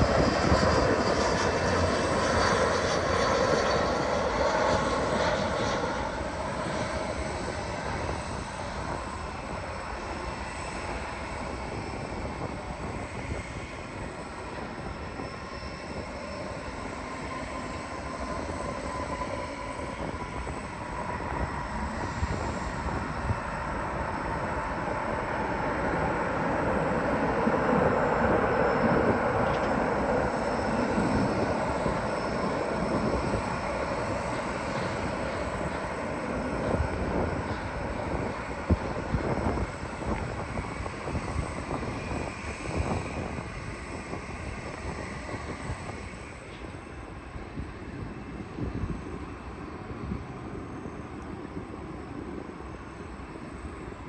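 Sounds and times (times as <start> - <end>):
jet airliner engine whine: 0.0 - 54.0.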